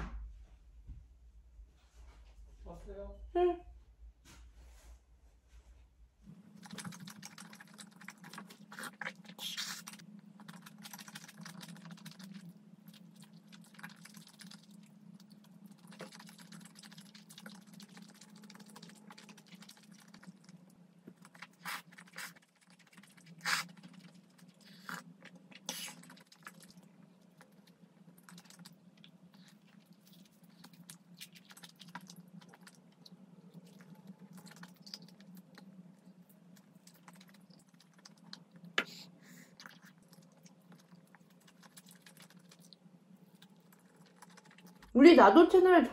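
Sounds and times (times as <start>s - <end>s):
close chewing: 6.5s - 45.0s.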